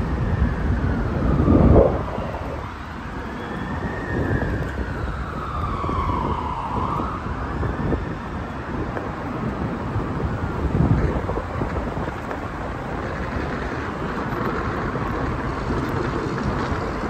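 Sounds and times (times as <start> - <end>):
distant siren wailing: 0.0 - 17.0
traffic rumble: 0.0 - 17.0.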